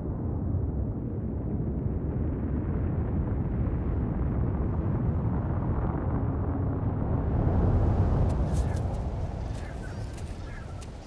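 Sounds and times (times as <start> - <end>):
volcanic eruption deep rumble: 0.0 - 11.0.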